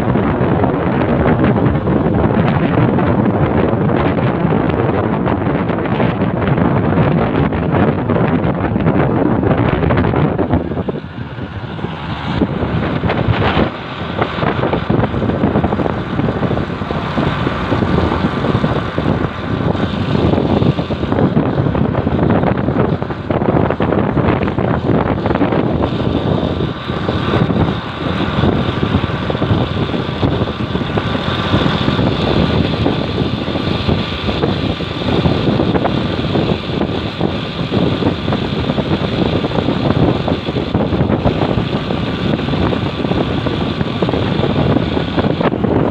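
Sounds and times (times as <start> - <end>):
motorcycle engine: 0.0 - 45.9
wind buffeting microphone: 0.0 - 45.9.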